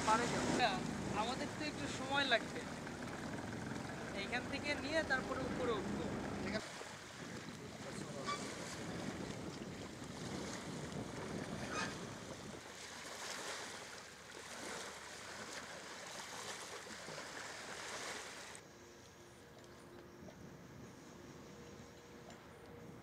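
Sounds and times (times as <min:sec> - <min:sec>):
water rushing past boat: 0:00.0 - 0:18.6.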